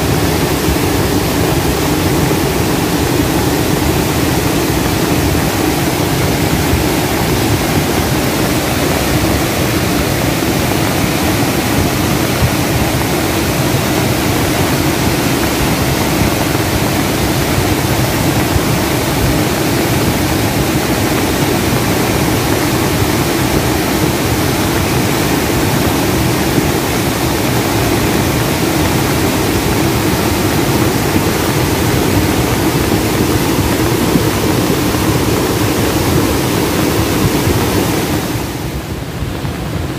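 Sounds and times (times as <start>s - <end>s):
floodwater rushing roar: 0.0s - 39.9s.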